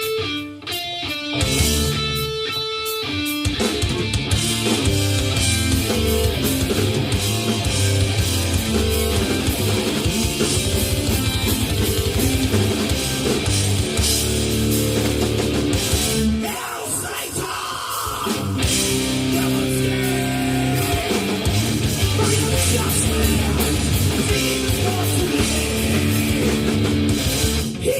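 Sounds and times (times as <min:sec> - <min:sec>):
metal band playing: 0:00.0 - 0:27.9.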